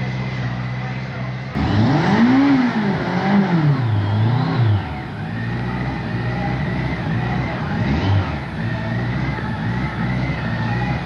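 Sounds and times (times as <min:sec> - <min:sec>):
motorcycle engine revving: 0:01.4 - 0:11.0.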